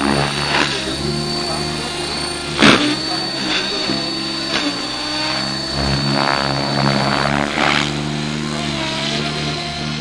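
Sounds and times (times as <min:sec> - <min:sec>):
model helicopter rotor whine: 0:00.0 - 0:10.0.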